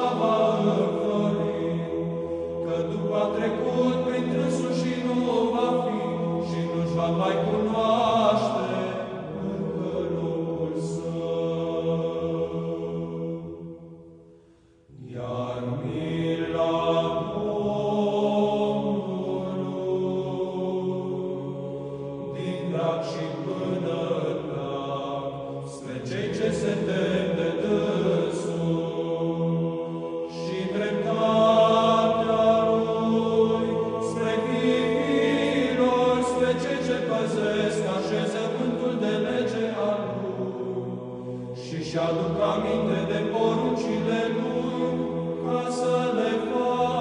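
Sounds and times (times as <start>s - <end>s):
voices chanting long notes: 0.0s - 14.2s, 14.9s - 47.0s.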